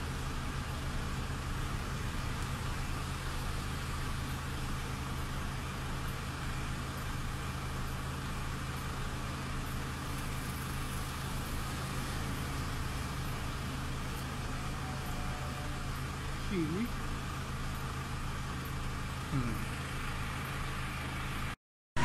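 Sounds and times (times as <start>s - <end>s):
car engine idling: 0.0s - 21.6s.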